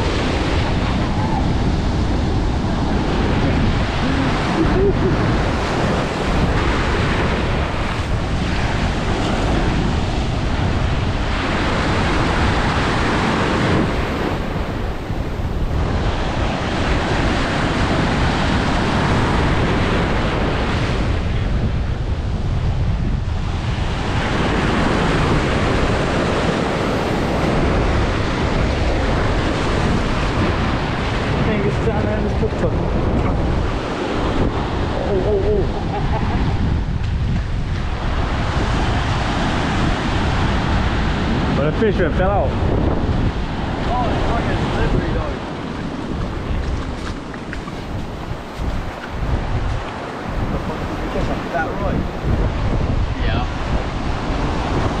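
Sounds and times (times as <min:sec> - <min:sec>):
ocean waves breaking on shore: 0:00.0 - 0:55.0
wind buffeting microphone: 0:00.0 - 0:55.0.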